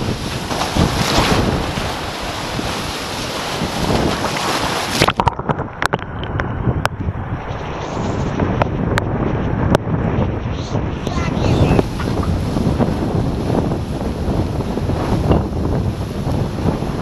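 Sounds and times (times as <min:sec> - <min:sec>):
rushing and splashing water: 0:00.0 - 0:17.0
wind buffeting microphone: 0:00.0 - 0:17.0.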